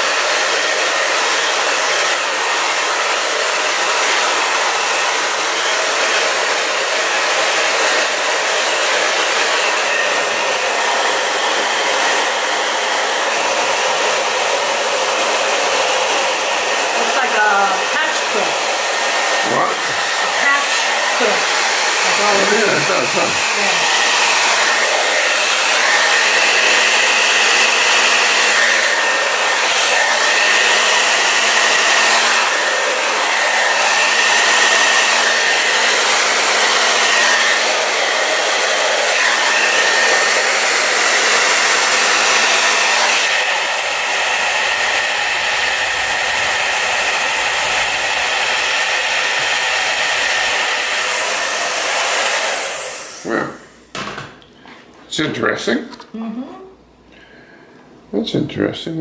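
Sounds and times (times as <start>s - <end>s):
hair dryer blowing air: 0.0s - 54.4s.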